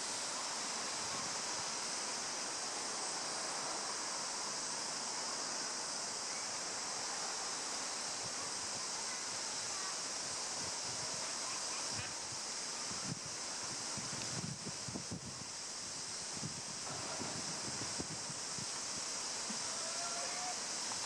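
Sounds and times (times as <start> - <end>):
high-pitched outdoor hiss: 0.0 - 21.0.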